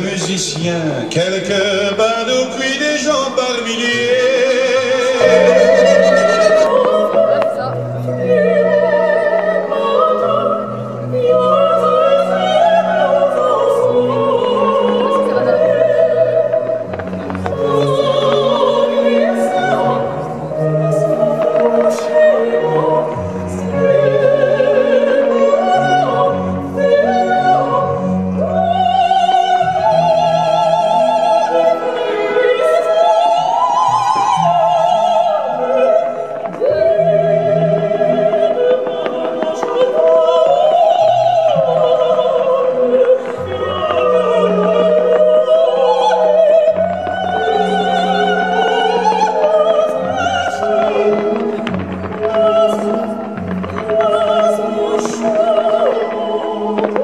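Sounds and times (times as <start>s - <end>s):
orchestral accompaniment: 0.0s - 57.0s
person singing with vibrato: 0.0s - 57.0s.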